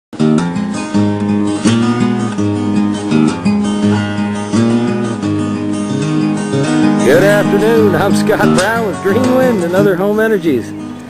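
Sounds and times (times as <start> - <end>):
acoustic guitar music: 0.2 - 11.0.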